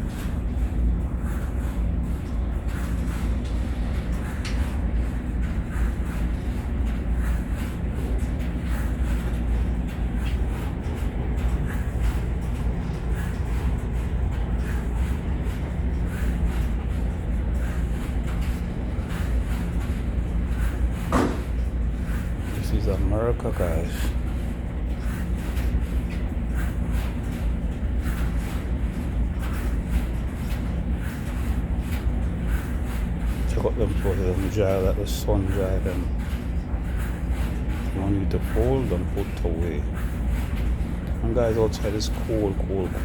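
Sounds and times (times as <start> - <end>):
washers and dryers rumbling: 0.0 - 43.0.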